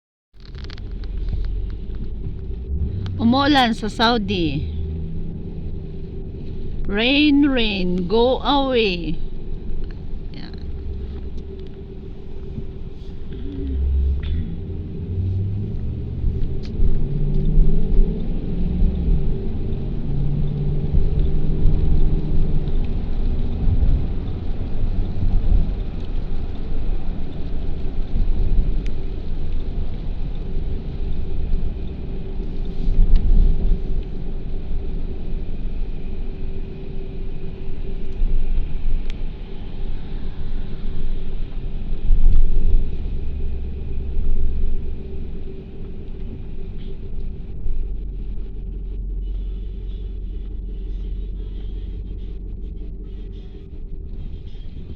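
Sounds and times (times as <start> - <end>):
car engine hum: 0.4 - 54.9.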